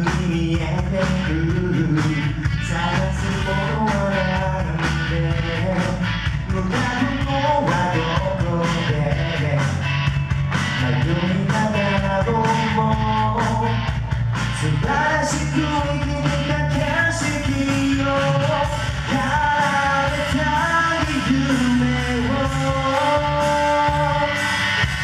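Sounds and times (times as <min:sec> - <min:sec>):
man singing into microphone: 0:00.0 - 0:09.9, 0:10.8 - 0:24.6
bass: 0:00.0 - 0:25.0
steady drum beat: 0:00.0 - 0:25.0.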